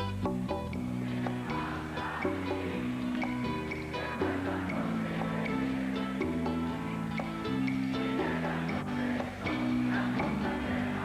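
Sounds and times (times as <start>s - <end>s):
guitar and bass chords: 0.0s - 11.0s.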